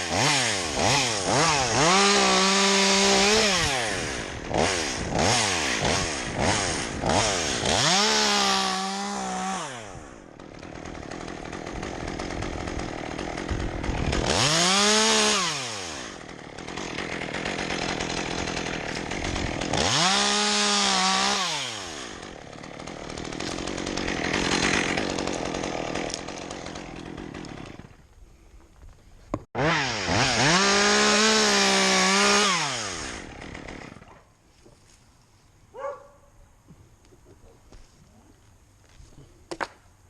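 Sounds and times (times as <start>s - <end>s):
chainsaw revving and cutting: 0.0s - 28.0s, 29.5s - 34.1s.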